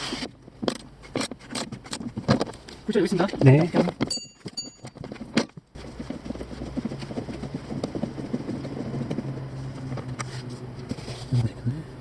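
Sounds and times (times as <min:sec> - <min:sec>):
steering joint clunking and rattling: 0:00.3 - 0:11.1.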